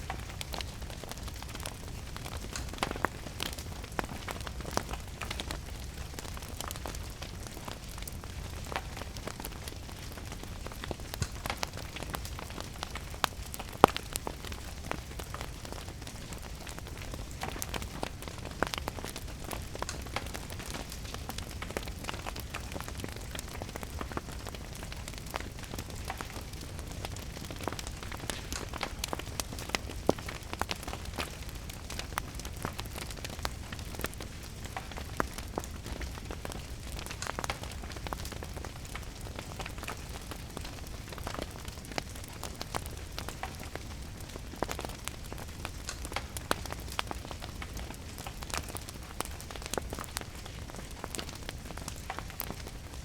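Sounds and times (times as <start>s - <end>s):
steady rain: 0.0s - 53.0s
wood fire crackling: 0.0s - 53.0s.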